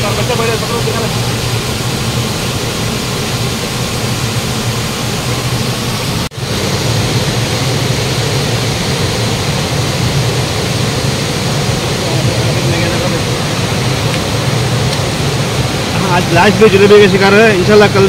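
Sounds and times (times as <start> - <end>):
waterfall and rapids rushing: 0.0 - 18.0.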